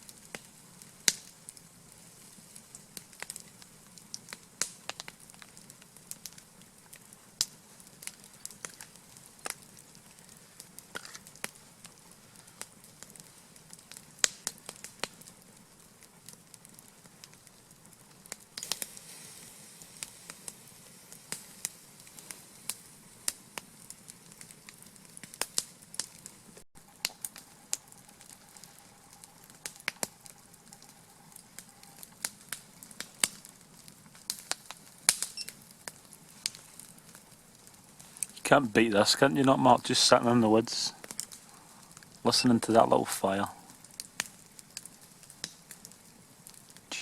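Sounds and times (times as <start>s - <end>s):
campfire crackling: 0.0s - 47.0s
low steady hiss: 0.0s - 47.0s.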